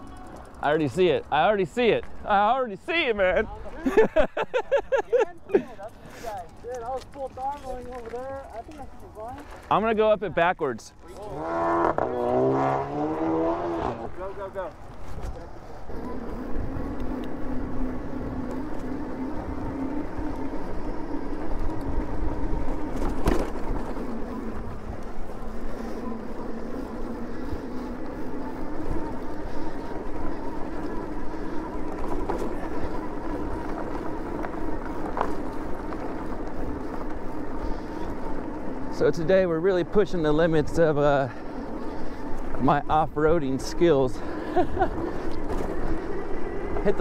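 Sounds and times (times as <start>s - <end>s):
wind and trail rumble: 0.0s - 47.0s.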